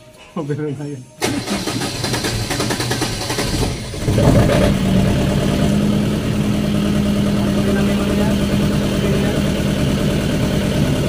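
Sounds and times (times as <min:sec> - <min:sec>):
diesel generator running: 0:01.2 - 0:11.0
diesel generator starter cranking: 0:01.2 - 0:11.0.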